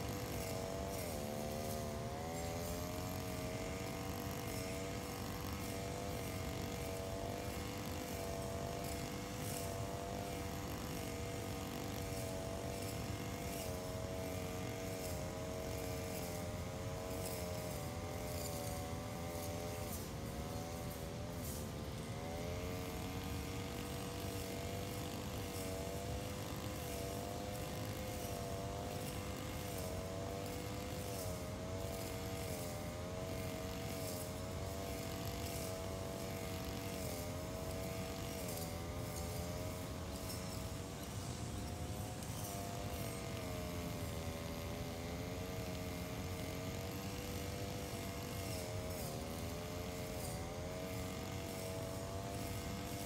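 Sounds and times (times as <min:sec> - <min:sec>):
brush cutter engine running: 0:00.0 - 0:53.0.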